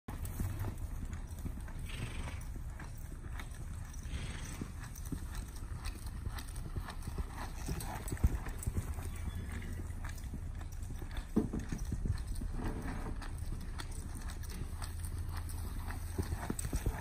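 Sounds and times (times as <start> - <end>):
horse hooves thudding on sand: 0.1 - 17.0.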